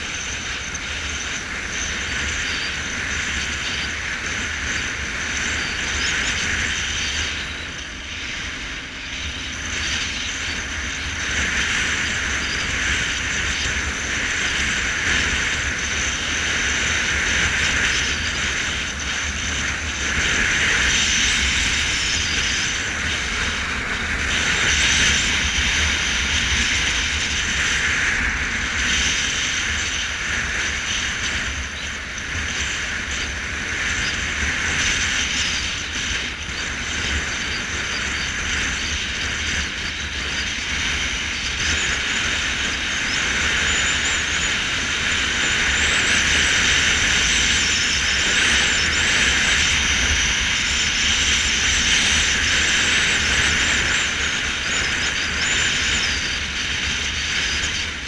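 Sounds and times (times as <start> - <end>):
road noise: 0.0 - 58.0
wind rushing on microphone: 0.0 - 58.0.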